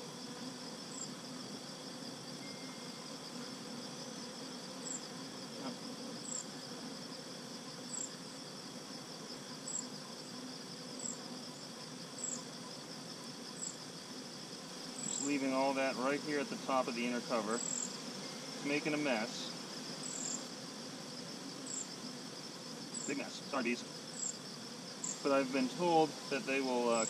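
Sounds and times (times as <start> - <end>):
honeybees buzzing: 0.0 - 27.0
insects trilling: 0.0 - 27.0.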